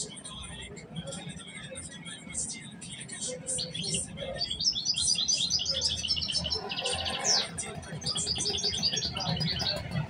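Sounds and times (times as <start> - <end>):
songbird twittering song: 0.0 - 10.0.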